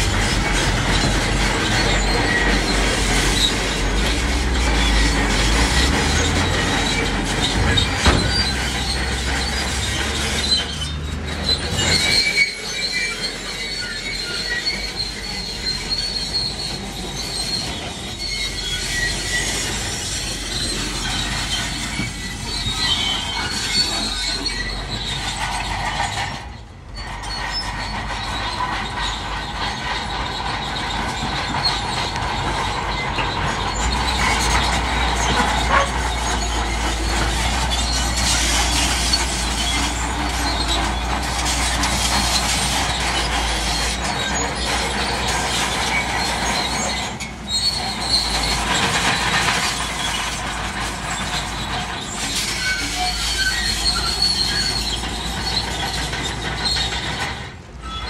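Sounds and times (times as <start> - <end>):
bulldozer engine rumble: 0.0 - 58.0
steel tracks squealing and clanking: 0.0 - 58.0.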